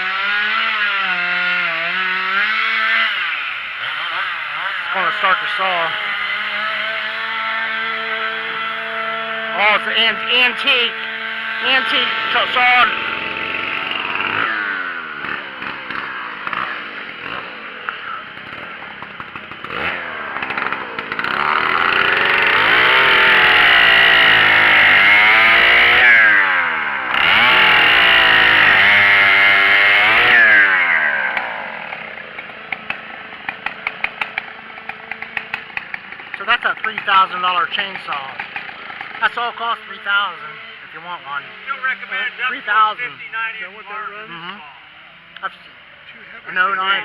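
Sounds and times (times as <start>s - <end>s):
chainsaw engine revving and idling: 0.0s - 47.0s.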